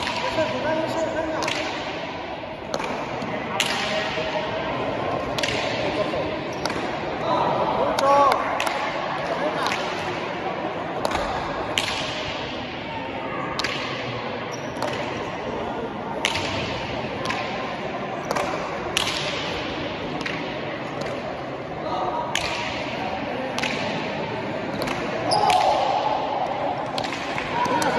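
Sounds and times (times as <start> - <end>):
ball hits echoing in hall: 0.0 - 27.9.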